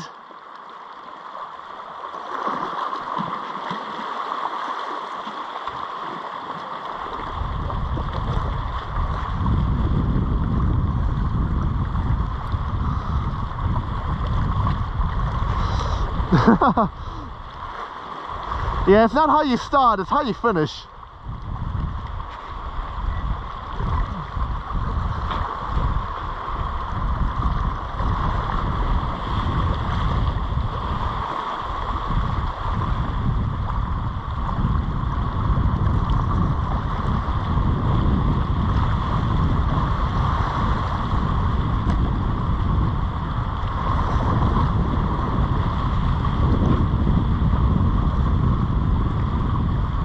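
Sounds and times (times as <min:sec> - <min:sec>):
sea water washing around rocks: 0:00.0 - 0:50.0
wind buffeting microphone: 0:07.1 - 0:50.0.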